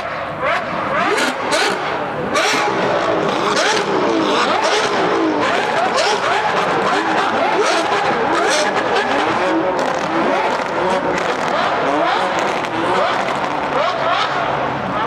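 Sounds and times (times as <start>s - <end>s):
sports car engine revving: 0.0s - 15.0s
exhaust cracks: 0.5s - 14.5s.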